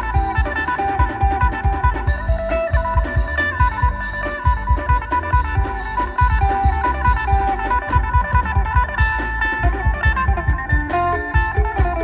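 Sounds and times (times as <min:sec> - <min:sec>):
fast drum beat: 0:00.0 - 0:12.0
plucked-string lead melody: 0:00.0 - 0:12.0
thudding bass drum: 0:00.0 - 0:12.0.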